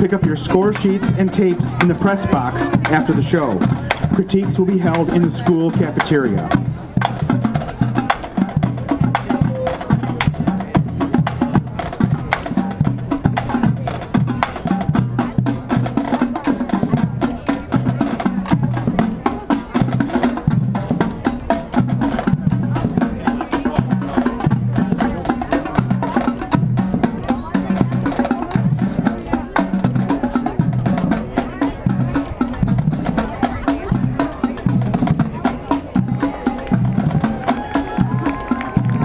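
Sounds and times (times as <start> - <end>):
marching drumline playing: 0.0 - 39.0.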